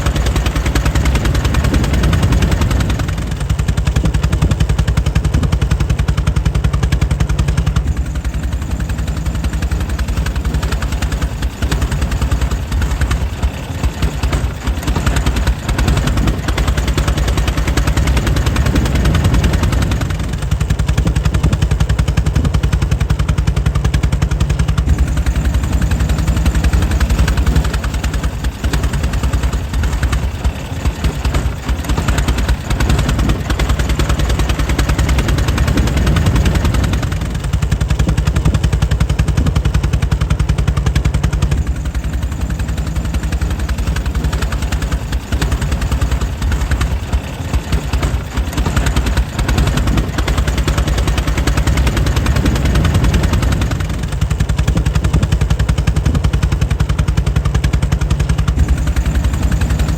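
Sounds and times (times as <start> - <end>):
old engine running: 0.0 - 59.9.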